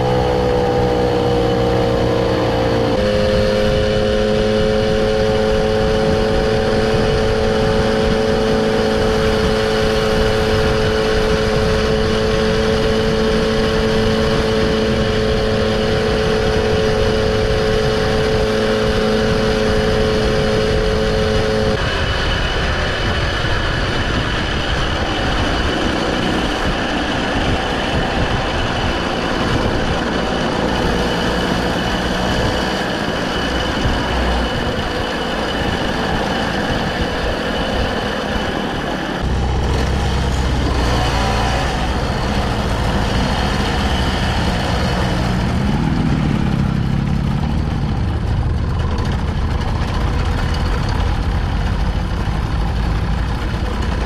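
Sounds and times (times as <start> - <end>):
moped engines running: 0.0 - 54.0
wind and road noise: 0.0 - 54.0.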